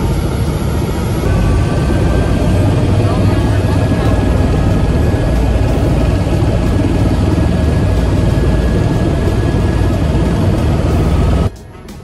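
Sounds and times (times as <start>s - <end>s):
helicopter engine and rotor drone: 0.0s - 11.6s.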